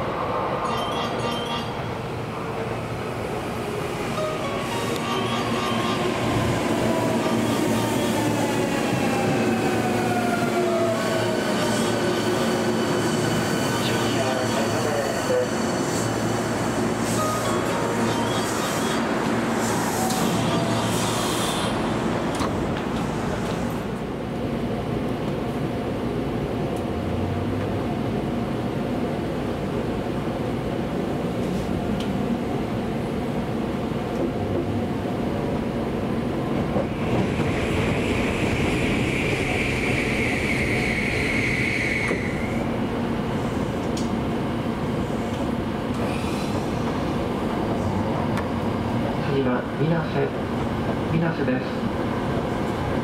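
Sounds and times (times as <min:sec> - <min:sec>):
train wheels rumbling on track: 0:02.4 - 0:53.0.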